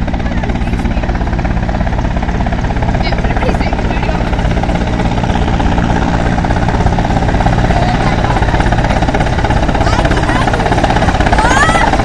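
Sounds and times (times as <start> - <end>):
helicopter rotor blade chop: 0.0 - 12.0
helicopter turbine noise: 0.0 - 12.0.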